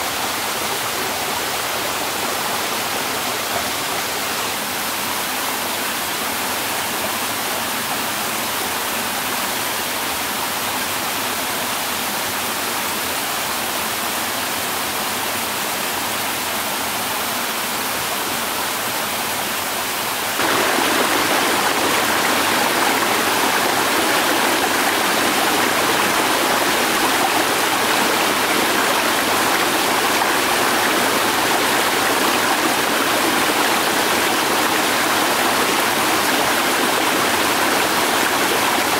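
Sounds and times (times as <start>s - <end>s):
rushing flowing water: 0.0s - 38.9s.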